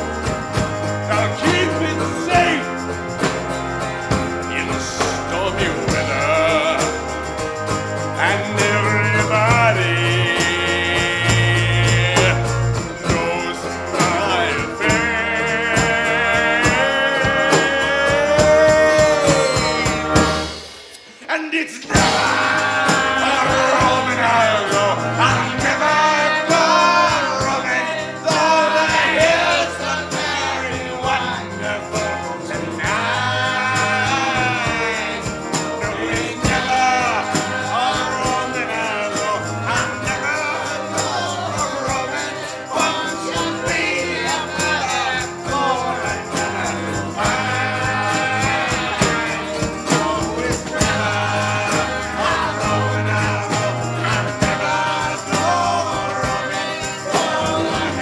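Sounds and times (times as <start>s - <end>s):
two men singing: 0.0s - 20.5s, 21.1s - 58.0s
strummed acoustic guitar: 0.0s - 21.1s, 21.9s - 58.0s
jingling hand percussion: 0.0s - 21.2s, 21.8s - 58.0s.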